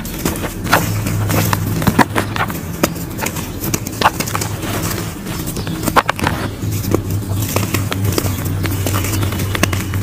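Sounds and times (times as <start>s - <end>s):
hands crumbling dry mud: 0.0s - 10.0s.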